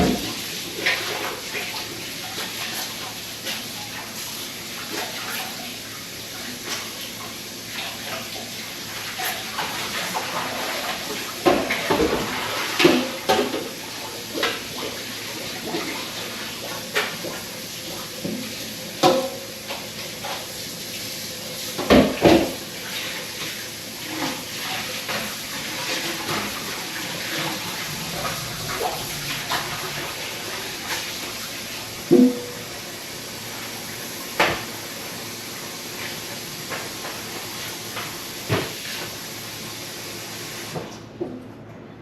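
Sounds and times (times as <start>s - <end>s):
water running at a sink: 0.0s - 41.1s.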